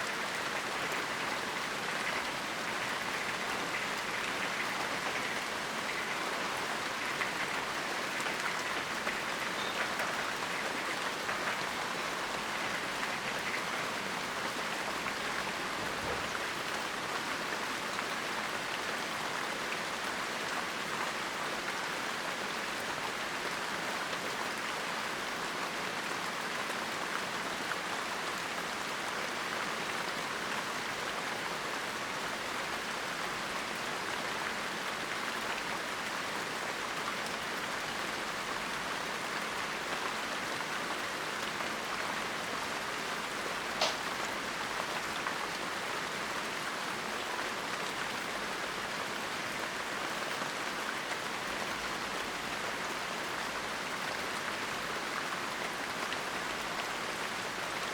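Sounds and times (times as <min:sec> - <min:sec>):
heavy rain pattering: 0:00.0 - 0:57.9.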